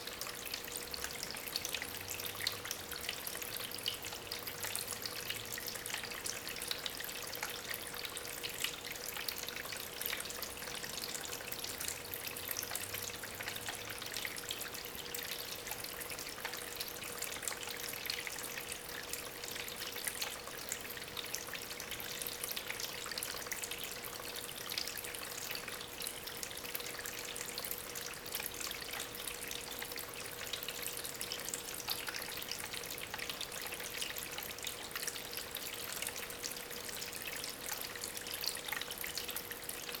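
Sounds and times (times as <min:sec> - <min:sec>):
faint steady hum: 0:00.0 - 0:40.0
water trickling over stones: 0:00.0 - 0:40.0.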